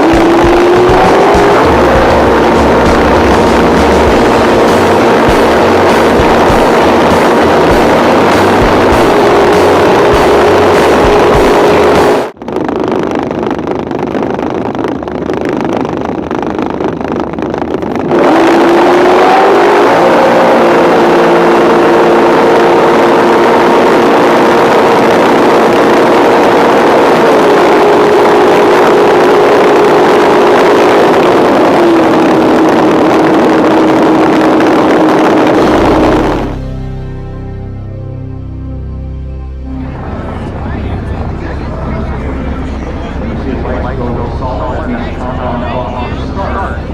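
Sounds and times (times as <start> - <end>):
drag boat engines running hard: 0.0 - 46.9.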